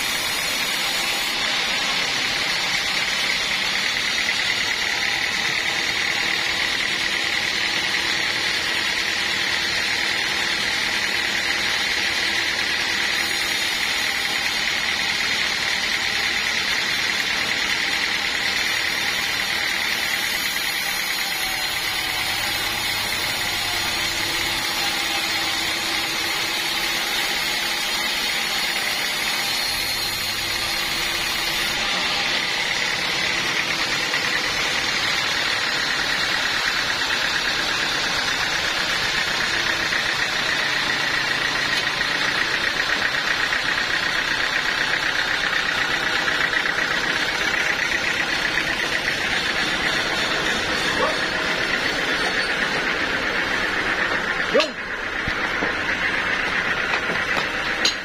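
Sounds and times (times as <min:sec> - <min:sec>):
band saw cutting log: 0:00.0 - 0:58.0.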